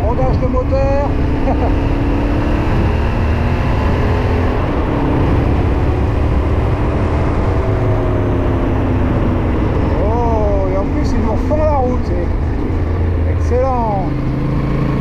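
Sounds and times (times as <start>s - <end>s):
wind noise on microphone: 0.0s - 13.3s
motorcycle engine running: 0.0s - 15.0s.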